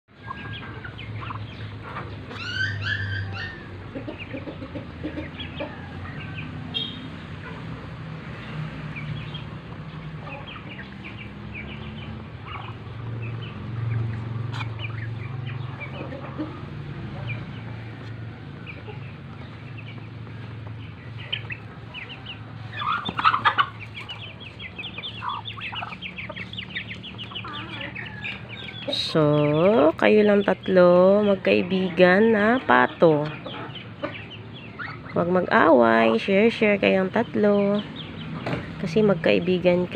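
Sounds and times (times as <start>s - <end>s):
chicken clucking: 0.1s - 39.9s.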